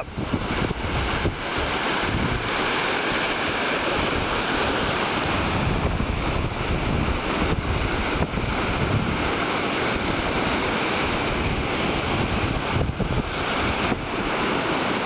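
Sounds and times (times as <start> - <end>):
surf breaking on sand: 0.0 - 15.0
wind buffeting microphone: 0.0 - 15.0.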